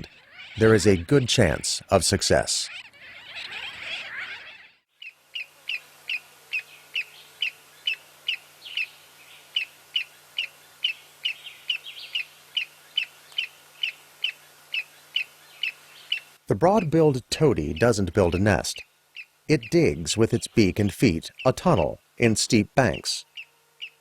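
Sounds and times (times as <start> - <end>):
bird calling sharp notes: 0.0 - 8.9, 9.6 - 24.0.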